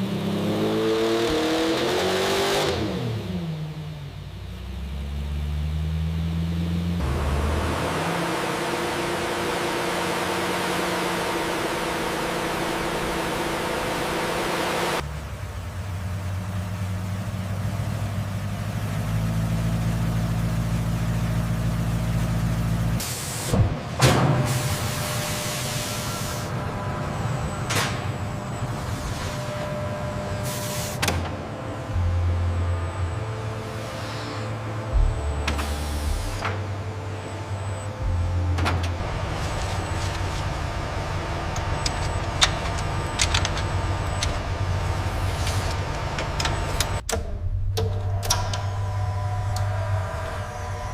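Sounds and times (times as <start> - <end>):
low machine drone: 1.6 - 50.9
steady low factory hum: 8.8 - 50.9.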